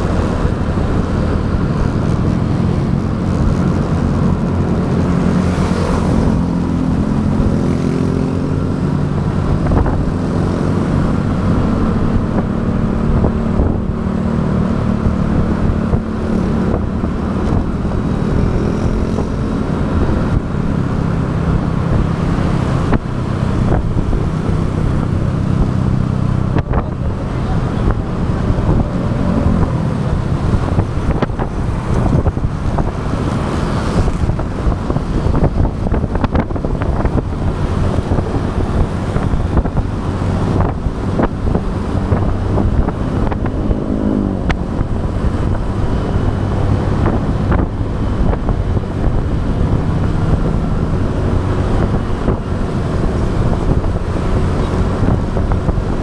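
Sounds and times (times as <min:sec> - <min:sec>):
motorbike engine running: 0:00.0 - 0:56.0
road traffic: 0:00.0 - 0:56.0
wind buffeting microphone: 0:00.0 - 0:56.0.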